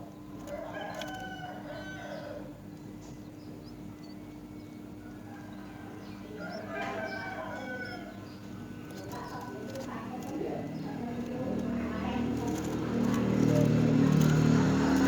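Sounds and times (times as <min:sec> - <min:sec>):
steady low hum: 0:01.6 - 0:15.0.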